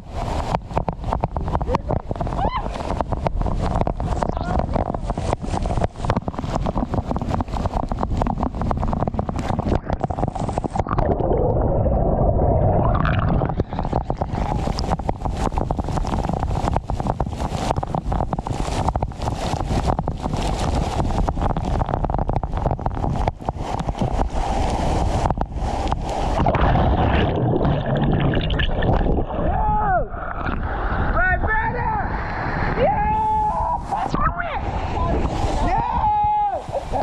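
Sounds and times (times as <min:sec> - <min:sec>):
microphone crackling: 0:00.0 - 0:37.0.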